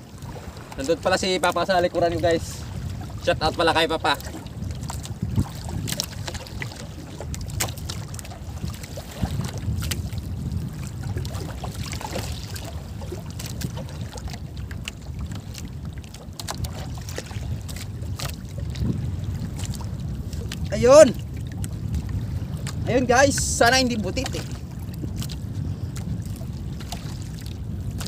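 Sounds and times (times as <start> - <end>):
water sloshing against hull: 0.0 - 28.0
wind rumbling on microphone: 0.0 - 28.0.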